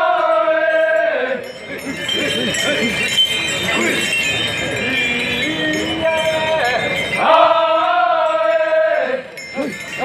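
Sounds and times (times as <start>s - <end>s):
many voices talking: 0.0s - 10.0s
light metallic jingling: 0.8s - 10.0s.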